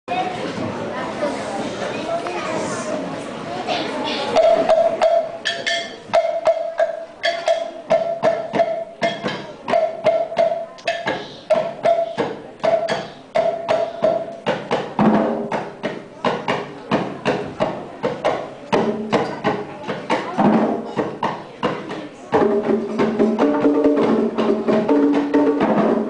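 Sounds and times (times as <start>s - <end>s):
hand percussion strikes: 4.3s - 26.0s.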